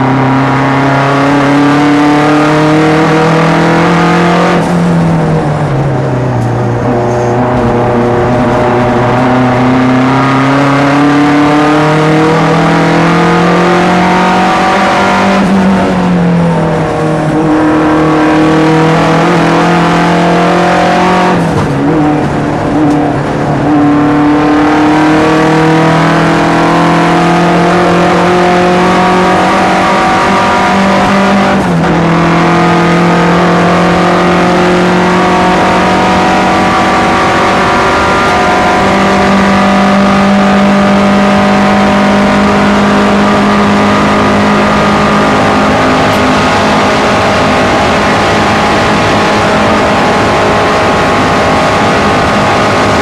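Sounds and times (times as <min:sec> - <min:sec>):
race car engine revving: 0:00.0 - 0:53.0
road and wind noise: 0:00.0 - 0:53.0.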